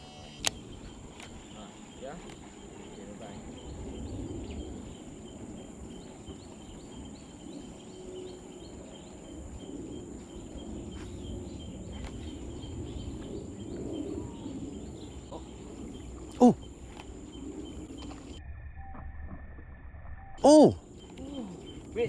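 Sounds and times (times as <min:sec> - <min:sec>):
insects chirping: 0:00.0 - 0:22.0
steady high whine: 0:00.0 - 0:22.0.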